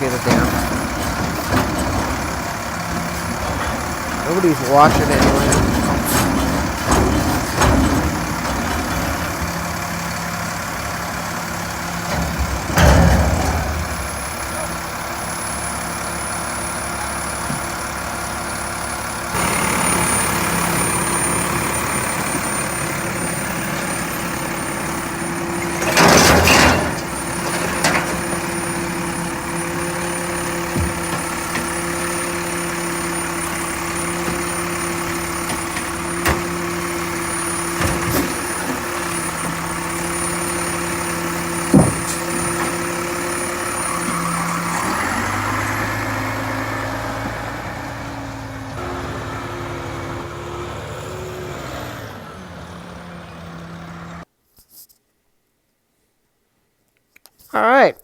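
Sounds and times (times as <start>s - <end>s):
truck diesel engine running: 0.0s - 54.2s.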